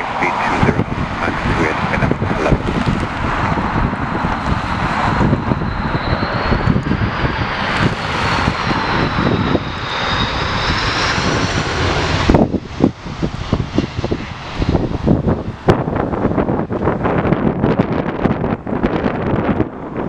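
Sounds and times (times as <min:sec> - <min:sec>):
jet engines roaring with fan whine: 0:00.0 - 0:20.0
wind buffeting microphone: 0:00.0 - 0:20.0.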